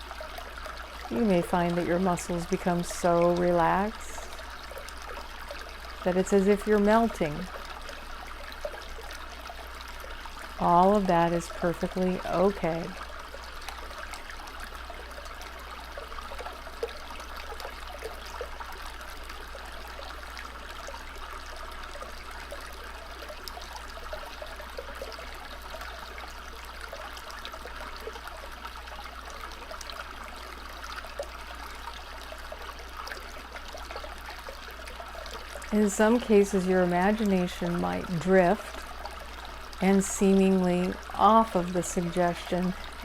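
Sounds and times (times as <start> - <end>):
stream water trickling: 0.0 - 43.0.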